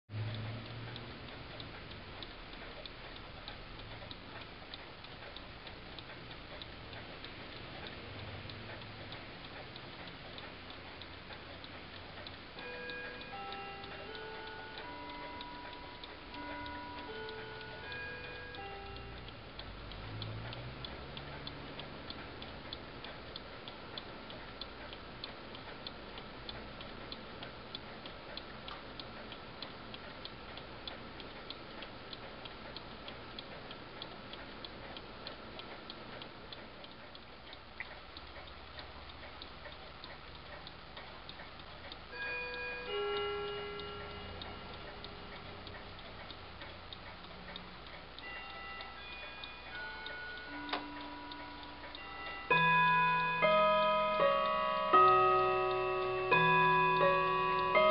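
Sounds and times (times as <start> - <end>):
clock ticking: 0.1 - 57.9
steady tones: 0.1 - 57.9.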